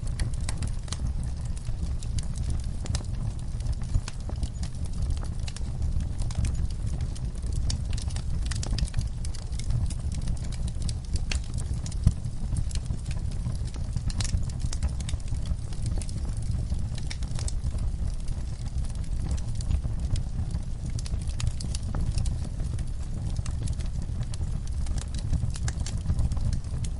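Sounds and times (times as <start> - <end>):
wood fire crackling and popping: 0.0 - 26.9.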